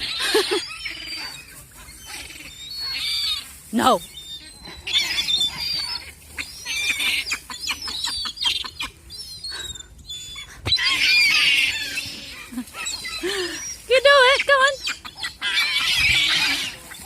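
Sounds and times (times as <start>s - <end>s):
seagulls calling: 0.0s - 17.0s.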